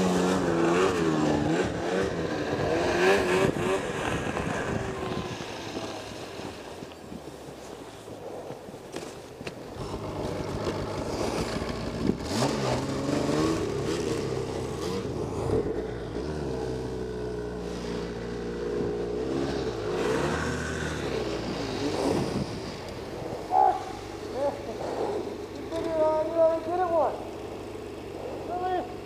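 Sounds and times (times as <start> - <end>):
snowmobile engines running: 0.0 - 29.0.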